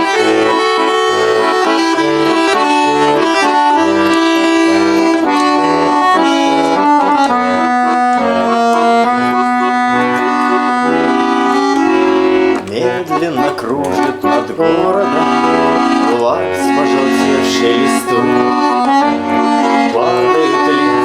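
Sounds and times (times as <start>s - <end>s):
accordion playing a waltz: 0.0s - 21.0s.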